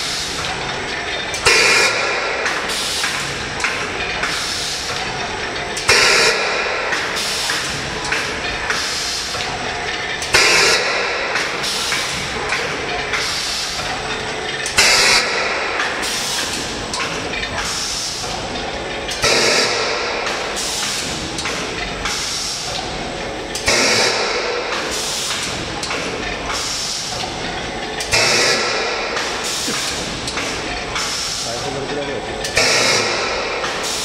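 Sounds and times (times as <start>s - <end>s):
machine clatter: 0.0s - 34.0s.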